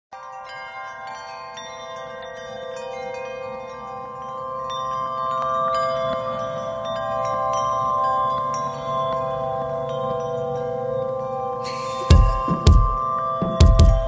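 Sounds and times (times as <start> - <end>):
bright chimes struck: 0.1 - 14.0
steady ringing tones: 0.1 - 14.0.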